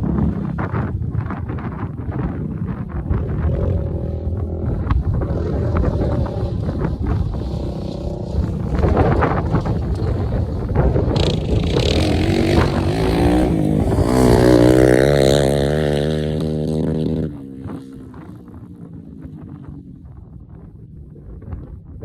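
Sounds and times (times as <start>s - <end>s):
atv engine revving: 0.0s - 19.9s.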